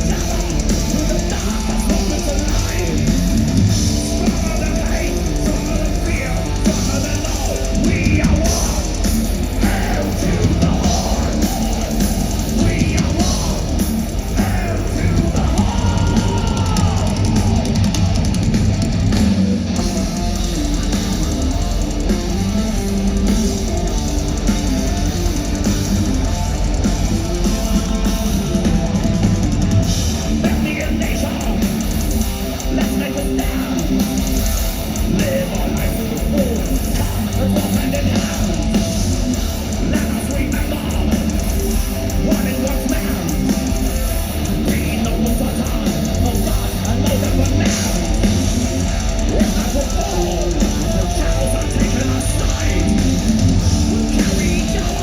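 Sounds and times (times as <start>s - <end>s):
distorted electric guitars: 0.0s - 55.0s
pounding drum kit: 0.0s - 55.0s.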